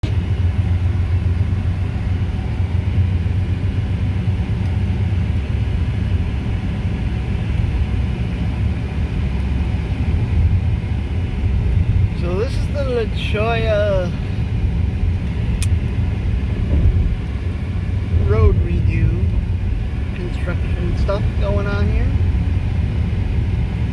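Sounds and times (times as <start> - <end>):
car interior road rumble: 0.0 - 23.9.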